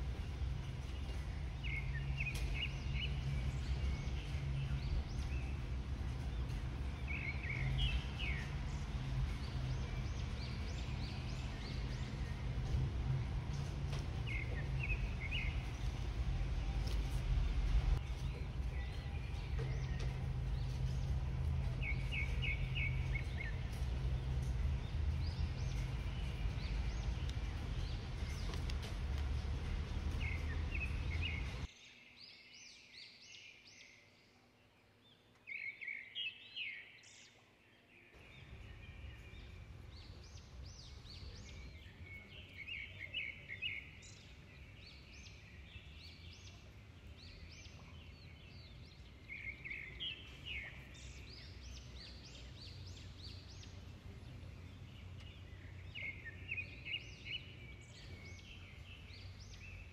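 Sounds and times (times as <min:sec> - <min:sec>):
low outdoor rumble: 0:00.0 - 0:31.7, 0:38.2 - 0:59.9
small birds chirping: 0:00.0 - 0:59.9.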